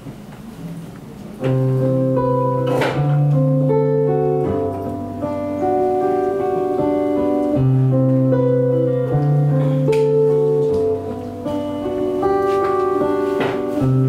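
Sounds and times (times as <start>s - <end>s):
acoustic guitar playing: 0.7s - 14.0s.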